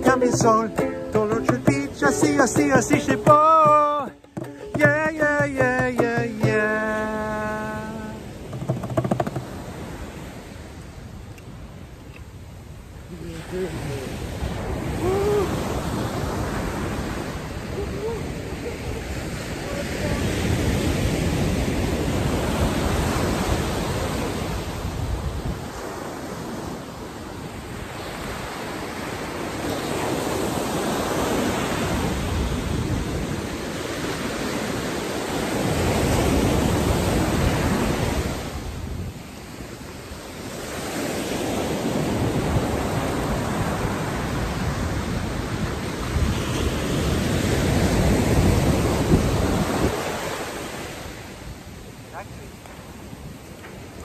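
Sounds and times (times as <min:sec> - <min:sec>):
ocean surf breaking on sand: 0:00.0 - 0:54.0.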